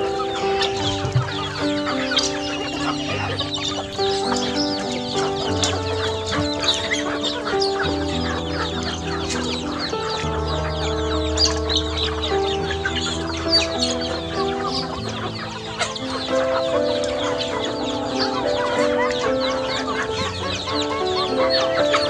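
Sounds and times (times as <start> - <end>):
background music of held notes: 0.0 - 22.0
chickens clucking: 0.0 - 22.0.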